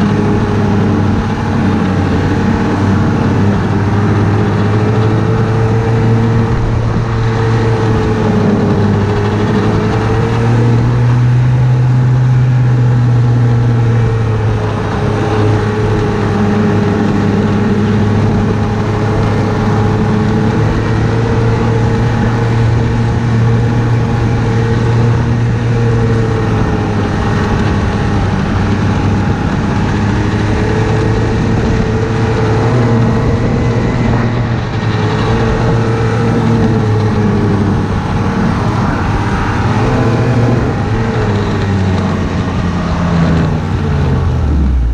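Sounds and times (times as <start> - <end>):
low rumbling noise: 0.0 - 44.9
snowmobile engine cruising: 0.0 - 44.9.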